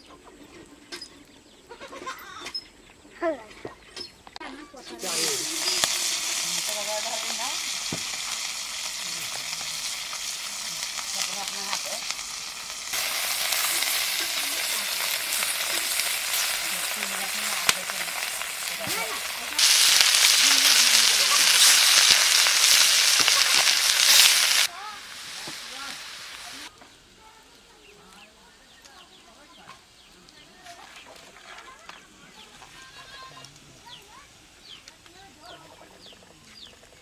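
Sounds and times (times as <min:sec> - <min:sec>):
oil sizzling in a pan: 0:04.9 - 0:37.0.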